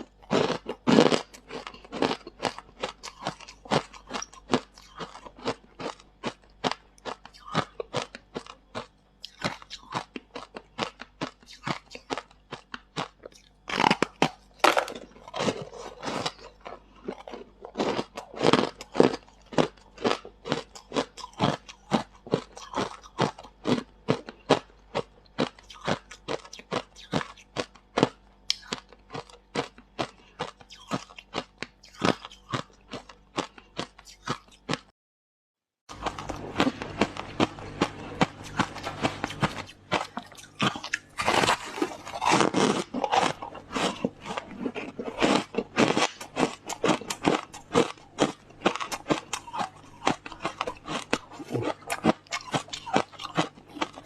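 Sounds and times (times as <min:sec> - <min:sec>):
person chewing crunchy frost: 0:00.0 - 0:34.9, 0:35.9 - 0:54.0.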